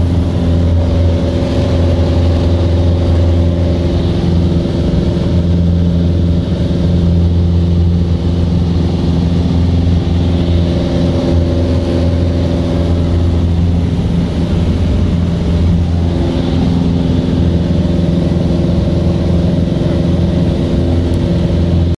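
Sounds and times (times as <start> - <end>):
light aircraft engine droning: 0.0 - 22.0.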